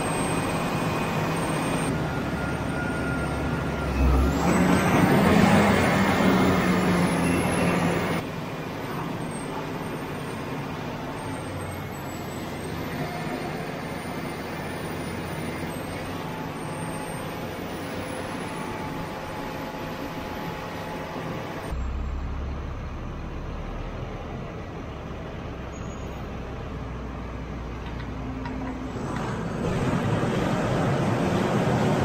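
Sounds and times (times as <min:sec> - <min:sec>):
heavy loader engine drone: 0:00.0 - 0:32.0.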